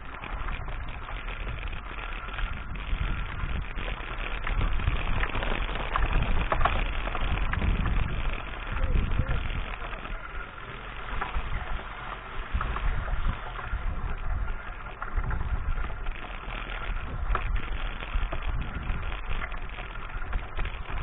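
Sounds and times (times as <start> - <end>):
bike rattling and knocking: 0.0 - 21.0
tyres on dirt: 0.0 - 21.0
wind rumble on microphone: 0.0 - 21.0.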